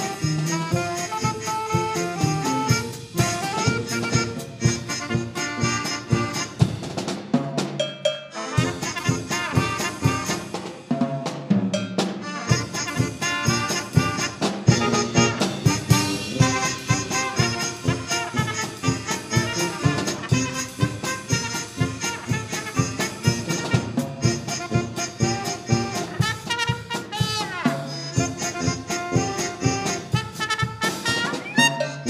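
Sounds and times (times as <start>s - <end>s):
brass band polka with drums: 0.0s - 32.0s.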